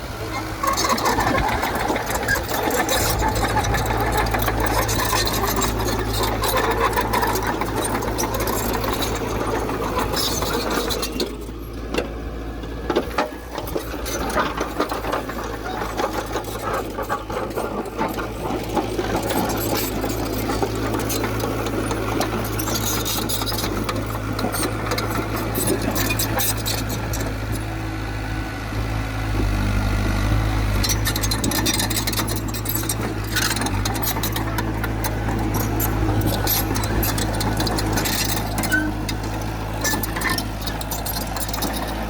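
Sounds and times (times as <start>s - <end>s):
heavy diesel engine running: 0.0s - 42.0s
metallic clatter and rattle: 0.6s - 27.7s, 30.8s - 42.0s.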